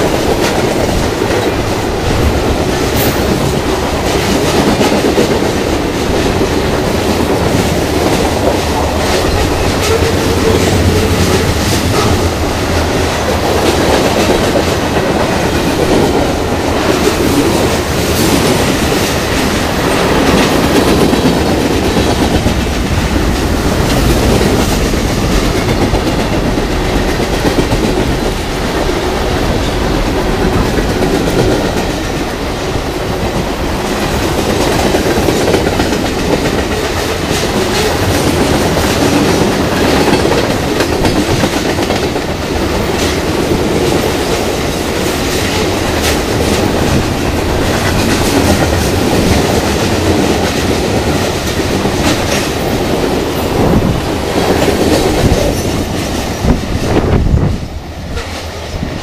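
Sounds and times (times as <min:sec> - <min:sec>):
wheels clacking over rail joints: 0:00.0 - 0:57.2
freight train rumbling past: 0:00.0 - 0:59.0.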